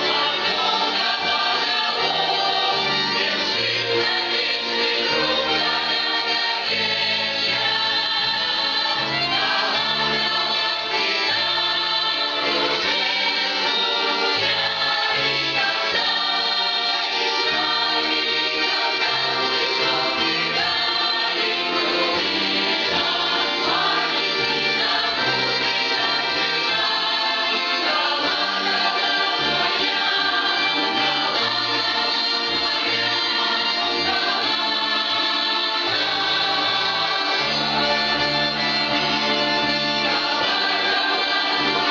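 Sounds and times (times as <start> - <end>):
choir singing folk song: 0.0 - 41.9.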